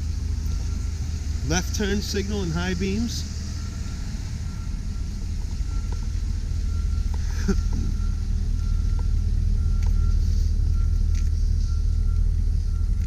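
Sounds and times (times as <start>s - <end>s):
truck engine idling: 0.0s - 13.0s
turn signal ticking tone: 0.0s - 13.0s.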